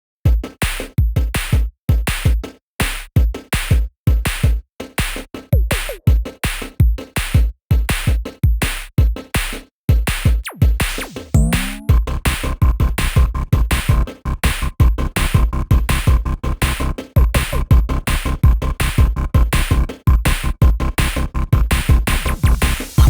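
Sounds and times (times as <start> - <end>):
electronic music with choppy beat: 0.3 - 23.0.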